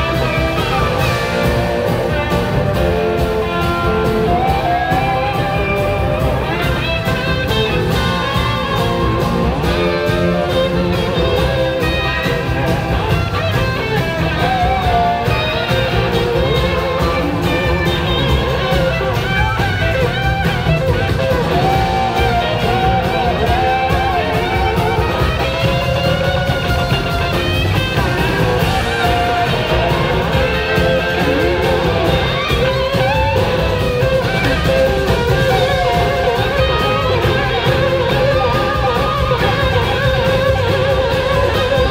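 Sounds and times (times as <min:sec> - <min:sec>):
bass guitar: 0:00.0 - 0:41.9
drums: 0:00.0 - 0:41.9
electric guitar lead lines: 0:00.0 - 0:41.9.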